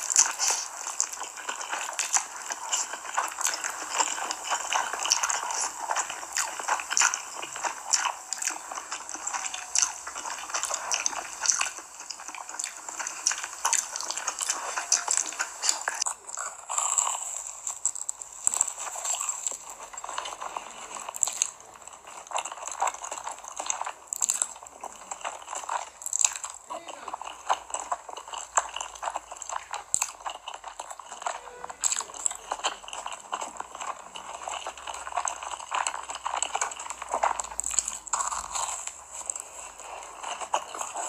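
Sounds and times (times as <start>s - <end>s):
crunchy food chewing: 0.0s - 41.0s.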